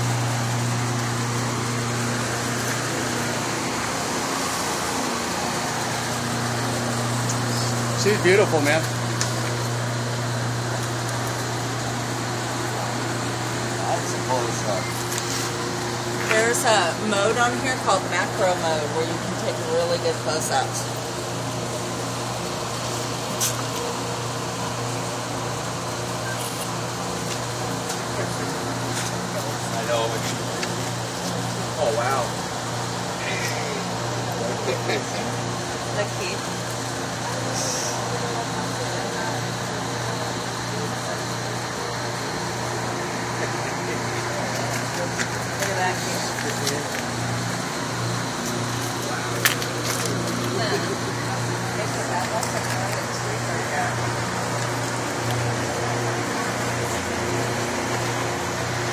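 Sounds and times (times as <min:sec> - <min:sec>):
broad rushing noise: 0:00.0 - 0:58.9
engine humming: 0:00.0 - 0:58.9.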